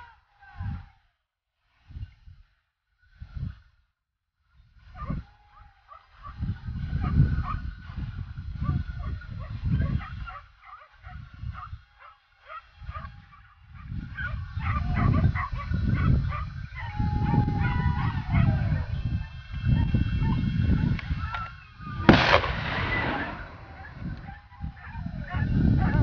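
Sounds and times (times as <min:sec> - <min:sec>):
wind rumbling on microphone: 0:00.0 - 0:01.1, 0:01.7 - 0:03.8, 0:04.4 - 0:26.0
dogs barking and yelping: 0:04.9 - 0:26.0.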